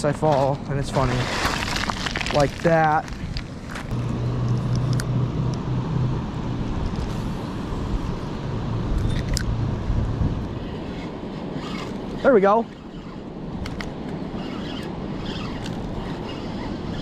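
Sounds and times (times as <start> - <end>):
low hum: 0.6 - 17.0.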